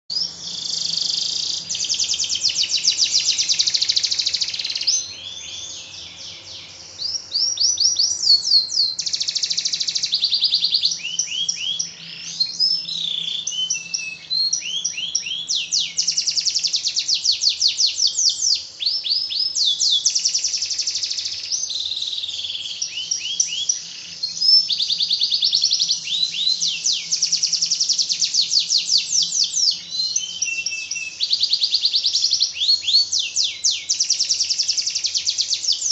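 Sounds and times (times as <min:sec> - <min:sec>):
canary singing trills: 0:00.1 - 0:35.9.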